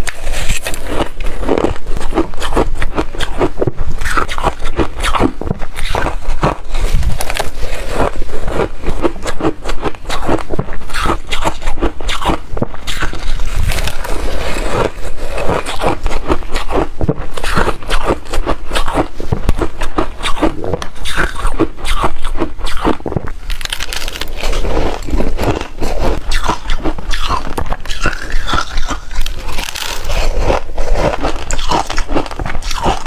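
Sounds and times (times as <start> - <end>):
person crunching ice: 0.0 - 33.0.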